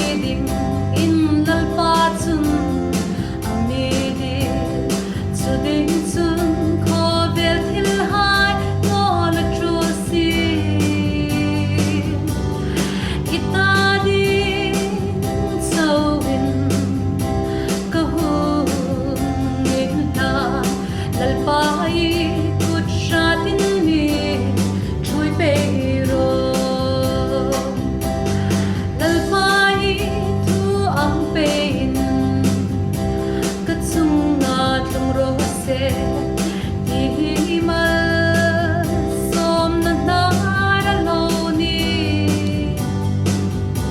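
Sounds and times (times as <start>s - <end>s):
instrumental accompaniment with steady beat: 0.0s - 43.9s.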